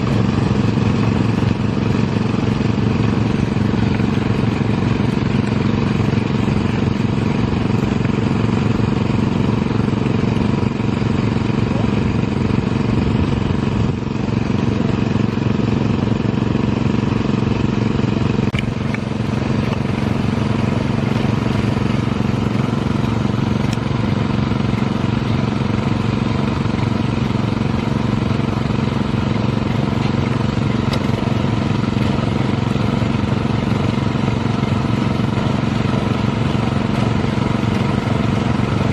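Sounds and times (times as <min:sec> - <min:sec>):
rice transplanter engine running: 0:00.0 - 0:38.9.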